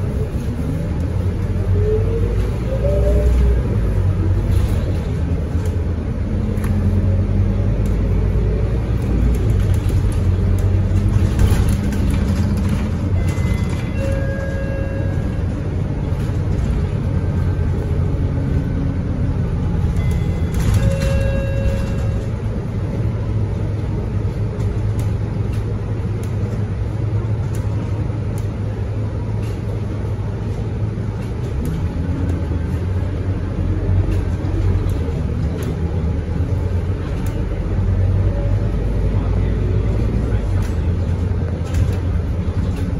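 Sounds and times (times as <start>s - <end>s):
bus diesel engine rumble: 0.0s - 42.9s
road noise: 0.0s - 42.9s.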